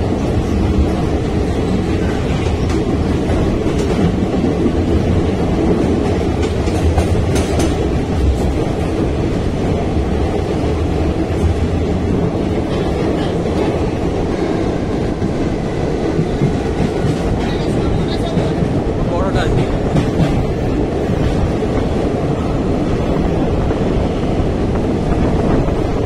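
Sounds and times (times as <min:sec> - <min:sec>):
train rumbling through tunnel: 0:00.0 - 0:26.0.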